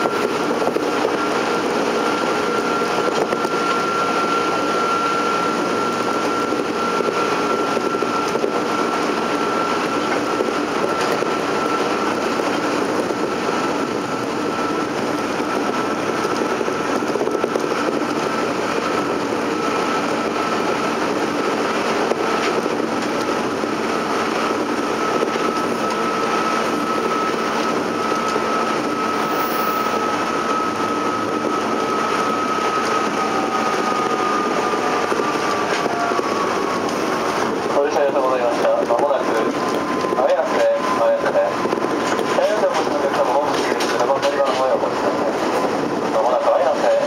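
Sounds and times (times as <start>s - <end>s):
high electric motor whine: 0.0s - 47.0s
train wheels rumbling: 0.0s - 47.0s.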